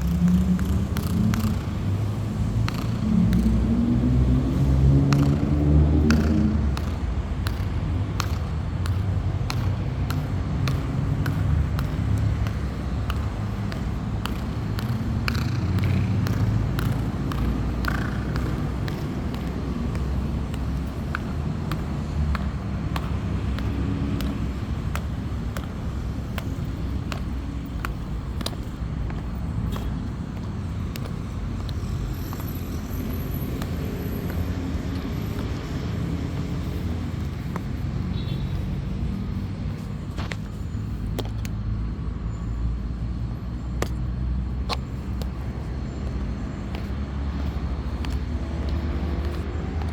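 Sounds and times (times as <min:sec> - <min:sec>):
high heels clicking on hard floor: 0:00.1 - 0:38.5, 0:43.8 - 0:49.9.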